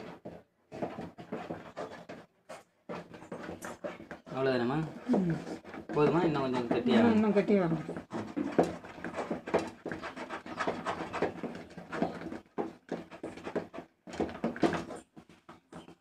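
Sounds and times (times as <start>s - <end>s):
porridge stirred in a pot: 0.0s - 16.0s.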